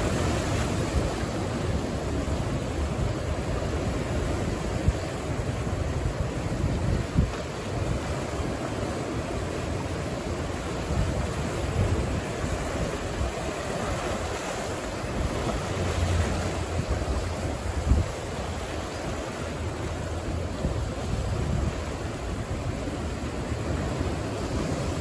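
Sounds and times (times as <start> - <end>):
wind buffeting microphone: 0.0 - 9.2, 10.5 - 25.0
ocean surf washing on shore: 0.0 - 25.0.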